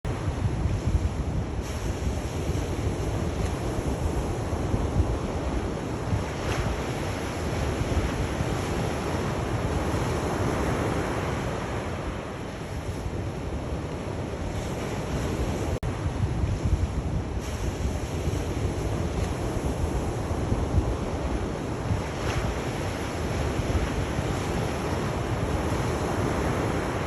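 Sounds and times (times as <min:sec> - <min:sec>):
waves washing in: 0:00.1 - 0:27.0.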